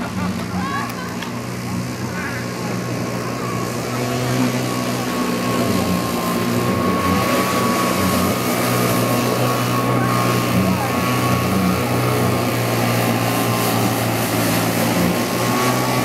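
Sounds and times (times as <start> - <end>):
hovercraft motor and fan drone: 0.0 - 16.0.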